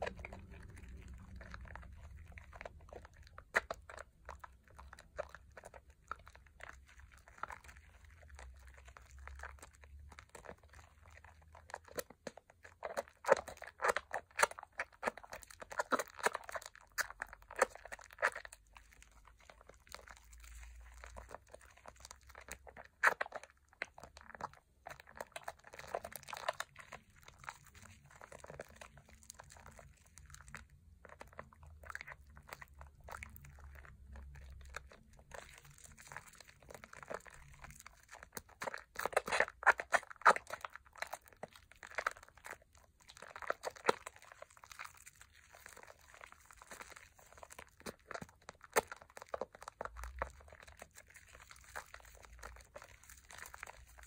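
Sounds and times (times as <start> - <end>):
hands kneading soap lather: 0.0 - 54.0.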